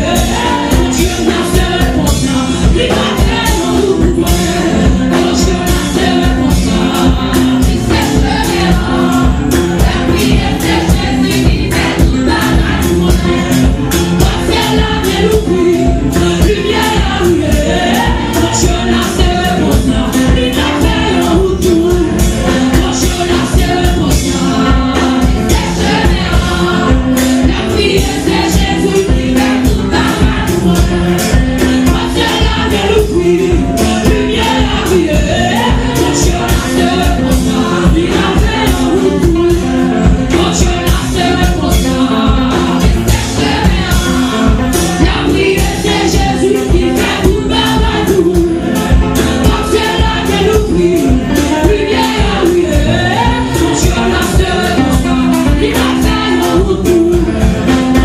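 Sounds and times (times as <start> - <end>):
amplified backing music with beat: 0.0 - 58.0
women singing into microphones: 0.0 - 58.0.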